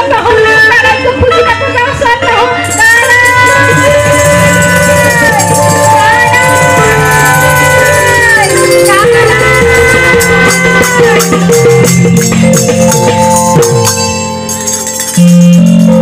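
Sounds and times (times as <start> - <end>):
keyboard holding notes: 0.5 - 16.0
mandolin: 1.0 - 16.0
hand percussion beat: 2.6 - 16.0.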